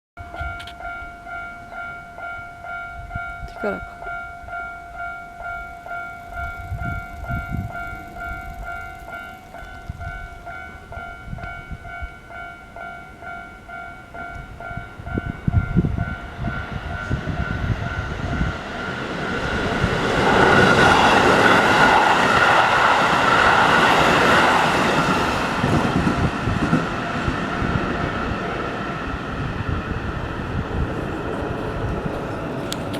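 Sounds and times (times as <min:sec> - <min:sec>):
crossing warning bell ringing: 0:00.2 - 0:32.9
electric train passing: 0:00.2 - 0:32.9.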